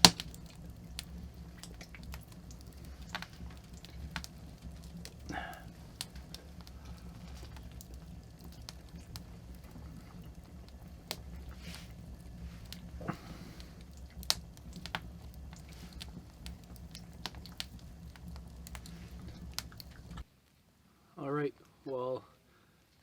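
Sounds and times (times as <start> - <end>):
low rumble: 0.0 - 20.2
rain pattering on roof: 0.0 - 20.3.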